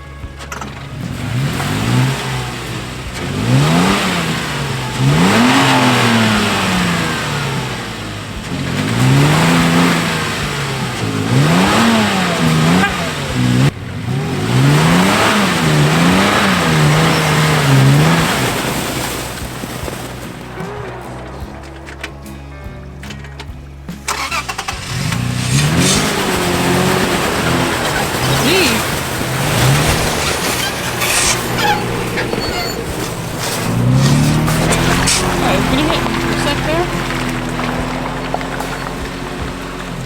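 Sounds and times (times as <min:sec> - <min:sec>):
tyres spinning in snow: 0:00.0 - 0:40.0
vehicle engine revving: 0:00.0 - 0:40.0.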